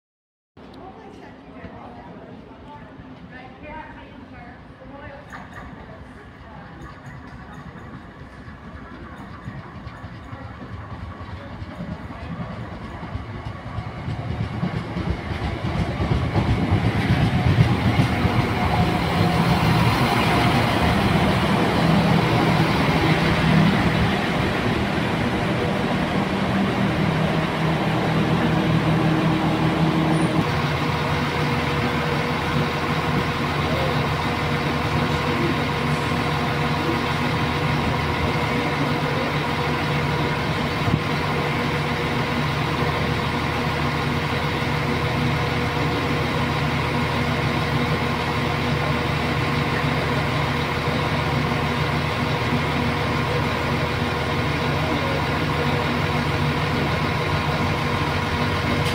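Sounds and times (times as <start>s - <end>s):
diesel train engines droning: 0.6s - 58.9s.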